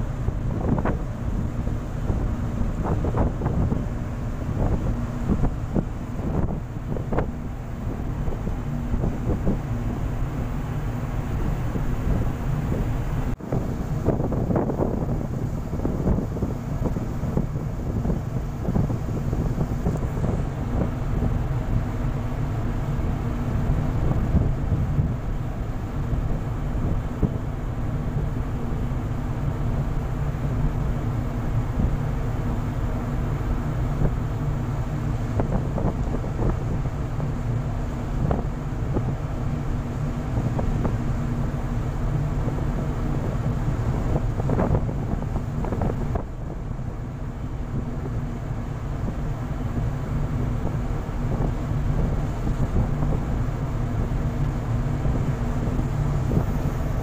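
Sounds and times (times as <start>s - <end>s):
sea rushing: 0.0s - 57.0s
ship engines rumbling: 0.0s - 57.0s
wind buffeting microphone: 0.0s - 57.0s.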